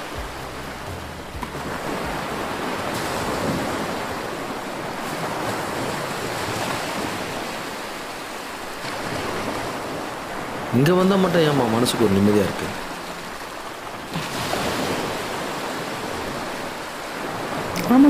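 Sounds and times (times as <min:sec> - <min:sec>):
sea waves washing on shore: 0:00.0 - 0:18.0.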